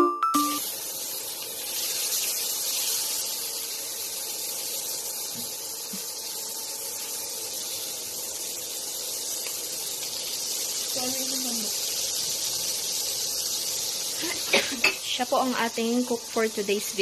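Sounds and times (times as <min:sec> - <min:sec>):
butter sizzling in pan: 0:00.4 - 0:17.0.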